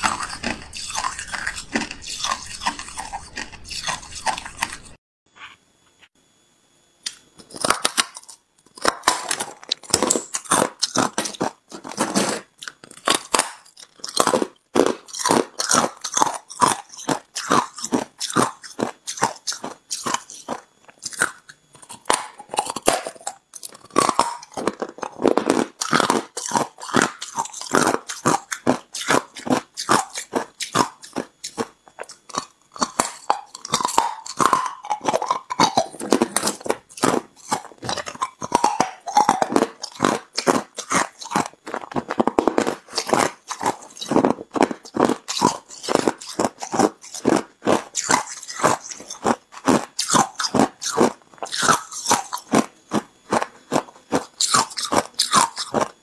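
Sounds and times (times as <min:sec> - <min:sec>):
person crunching ice: 0:00.0 - 0:04.9, 0:07.4 - 0:56.0.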